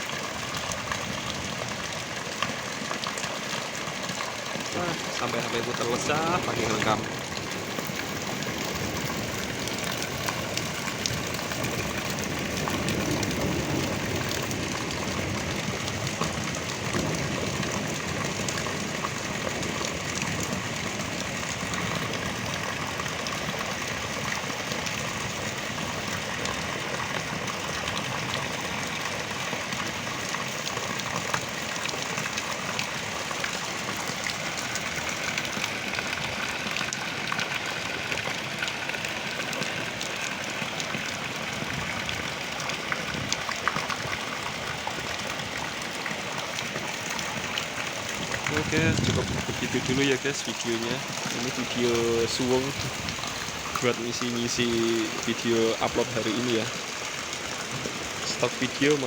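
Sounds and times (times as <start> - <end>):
heavy rain pouring: 0.0 - 59.0
running water: 0.0 - 59.0.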